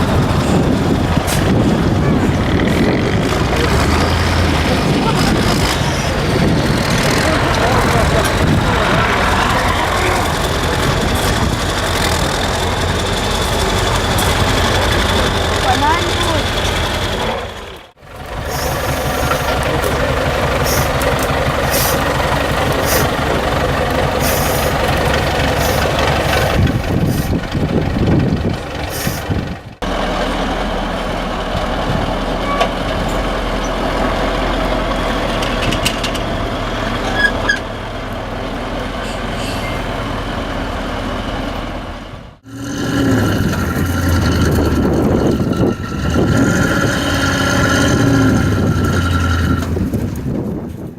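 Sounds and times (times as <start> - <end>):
truck engines revving: 0.0 - 50.9.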